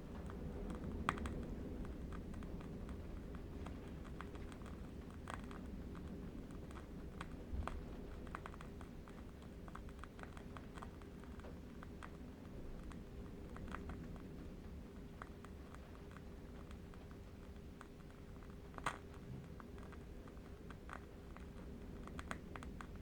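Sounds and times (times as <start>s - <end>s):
low wind rumble: 0.0s - 23.0s.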